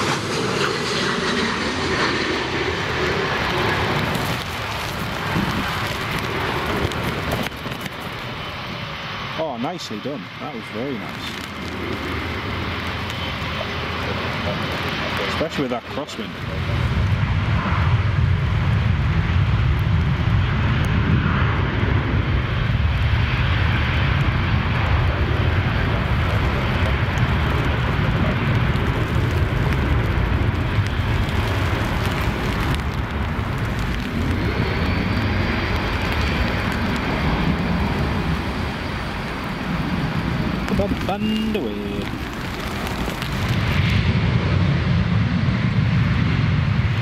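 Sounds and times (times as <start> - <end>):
jet engines running: 0.0 - 47.0.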